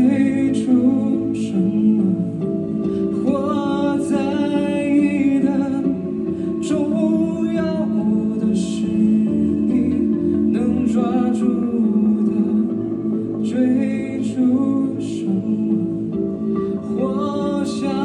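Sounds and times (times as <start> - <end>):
guitar and keyboard chords: 0.0 - 18.0
person singing: 0.0 - 18.0.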